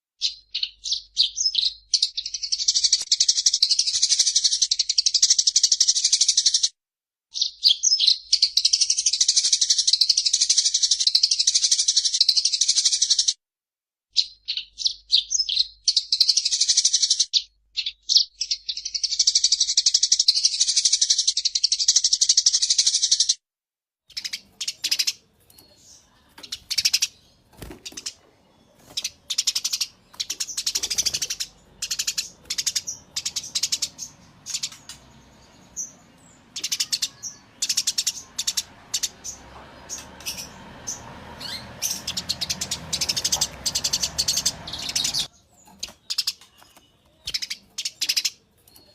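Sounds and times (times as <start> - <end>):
sparrows chirping: 0.2 - 6.7, 7.3 - 13.3, 14.2 - 23.4, 24.1 - 48.9.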